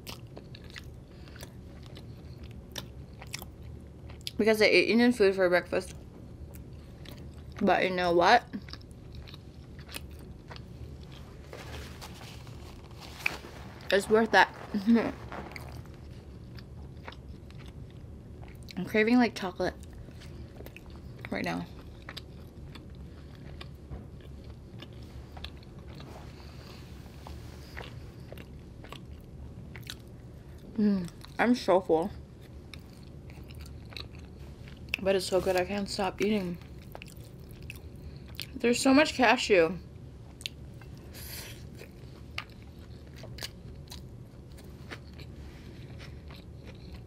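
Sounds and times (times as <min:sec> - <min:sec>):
person chewing food: 0:00.0 - 0:04.4, 0:05.9 - 0:07.7, 0:08.5 - 0:18.8, 0:19.8 - 0:31.4, 0:32.2 - 0:35.7, 0:36.6 - 0:38.6, 0:40.3 - 0:47.0
low steady hum: 0:00.0 - 0:47.0.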